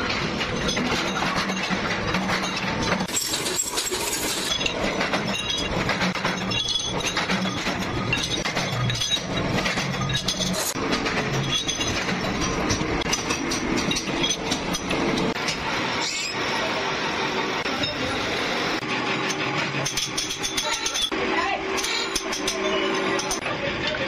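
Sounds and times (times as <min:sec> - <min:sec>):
metallic clinks and clanks: 0:00.0 - 0:15.6, 0:19.2 - 0:21.2, 0:21.8 - 0:24.0
workshop machinery running: 0:00.0 - 0:24.0.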